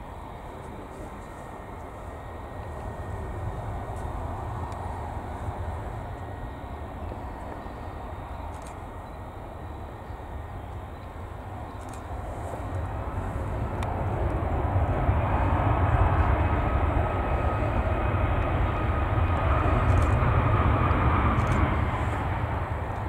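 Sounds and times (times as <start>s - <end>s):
jet engines rumble and whine: 0.0s - 23.0s.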